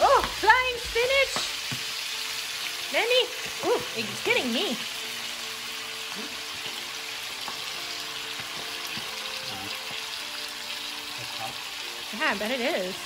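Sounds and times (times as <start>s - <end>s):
spinach sizzling in grease: 0.0s - 13.0s.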